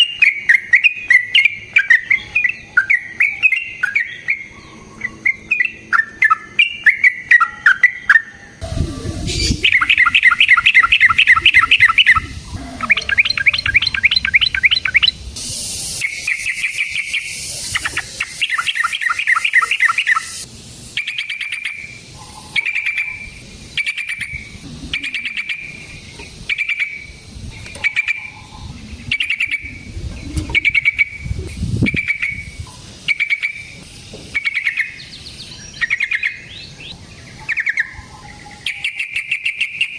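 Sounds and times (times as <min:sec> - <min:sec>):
bird singing trills: 0:00.0 - 0:39.9.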